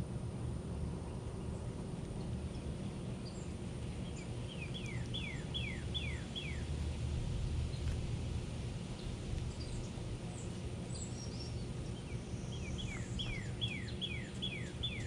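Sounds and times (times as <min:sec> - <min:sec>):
low background rumble: 0:00.0 - 0:15.0
songbirds chirping: 0:00.1 - 0:15.0.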